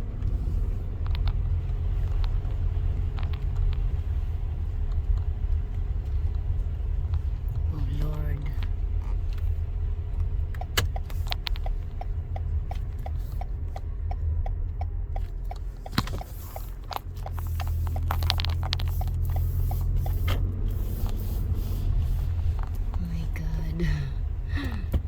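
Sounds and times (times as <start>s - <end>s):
car engine rumble: 0.0s - 25.0s
regular ticking: 0.9s - 25.0s.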